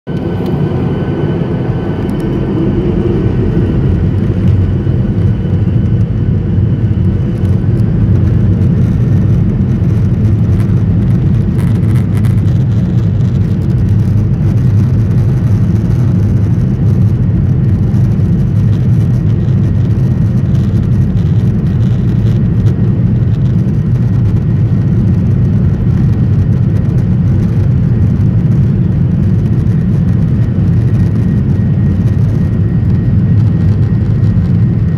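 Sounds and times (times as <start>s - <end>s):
jet engine cabin rumble: 0.1s - 34.9s.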